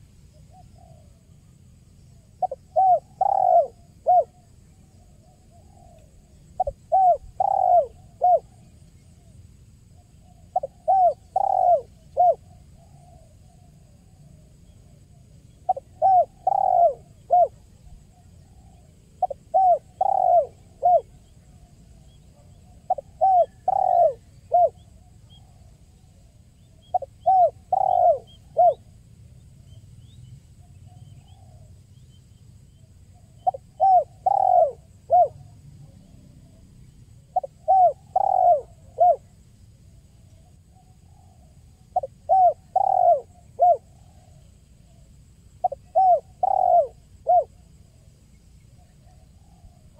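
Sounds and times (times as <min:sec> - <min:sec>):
dove cooing: 0:00.0 - 0:01.4, 0:02.2 - 0:08.6, 0:09.2 - 0:25.7, 0:26.7 - 0:28.9, 0:33.2 - 0:39.4, 0:40.4 - 0:48.1.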